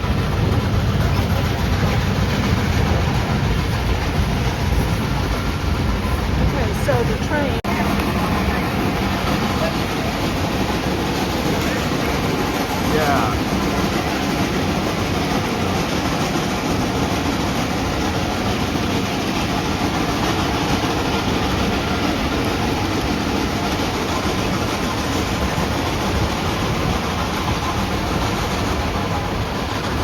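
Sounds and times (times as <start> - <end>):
train cars rumbling on track: 0.0 - 30.0.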